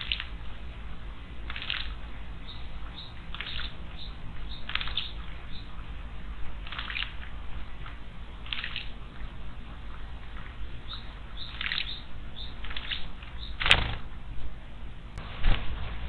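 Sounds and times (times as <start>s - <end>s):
songbirds chirping: 0.0s - 15.2s.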